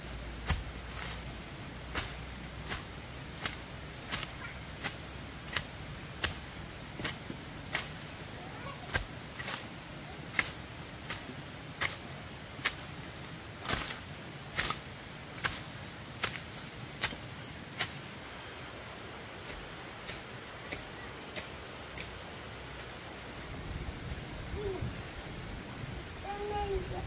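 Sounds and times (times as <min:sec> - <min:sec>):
low background noise: 0:00.0 - 0:27.0.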